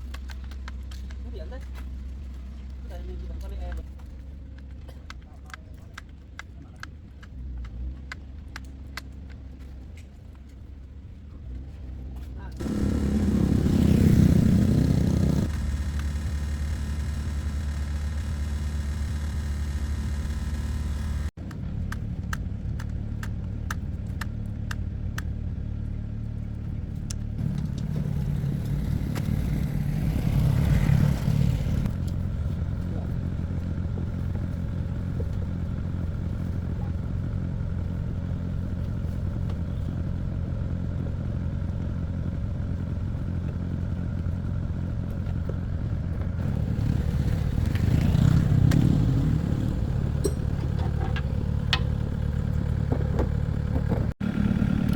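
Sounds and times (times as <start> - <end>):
excavator engine running: 0.0 - 54.9.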